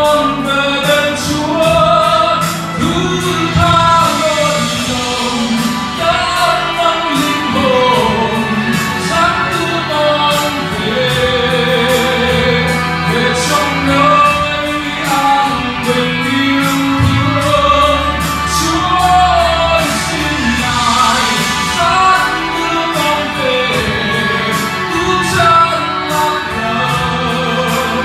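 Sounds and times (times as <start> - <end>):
backing track with steady beat: 0.0 - 28.0
man singing into microphone: 0.0 - 28.0.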